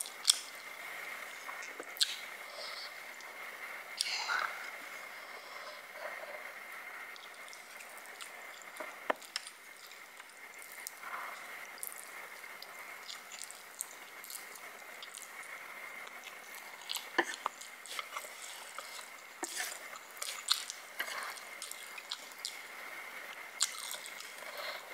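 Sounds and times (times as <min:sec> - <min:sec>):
person chewing and slurping noodles: 0:00.0 - 0:03.3, 0:07.1 - 0:22.8, 0:23.4 - 0:24.9
steady hiss with high tone: 0:00.0 - 0:24.9.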